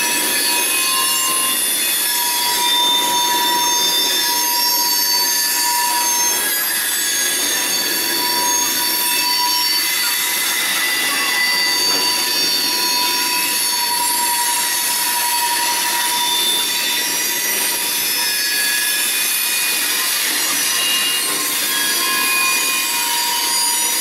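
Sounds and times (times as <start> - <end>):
high-pitched wheel squeals: 0.0 - 24.0
train wheels rumbling on rail: 0.0 - 24.0.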